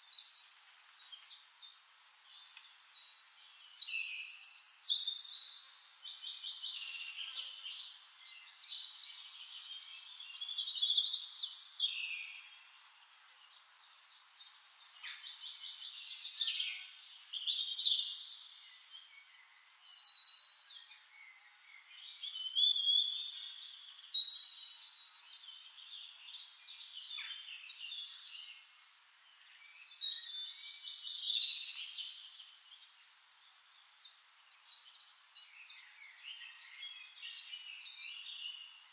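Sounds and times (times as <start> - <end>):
songbirds trilling and chirping: 0.0 - 38.9.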